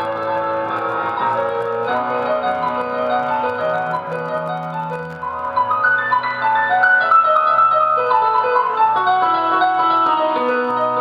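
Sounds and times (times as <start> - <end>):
keyboard playing piano notes and chords: 0.0 - 11.0.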